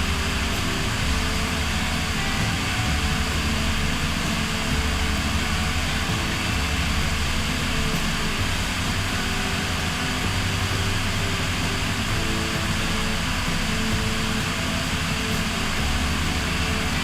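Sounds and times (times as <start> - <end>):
propeller aircraft drone: 0.0 - 17.0.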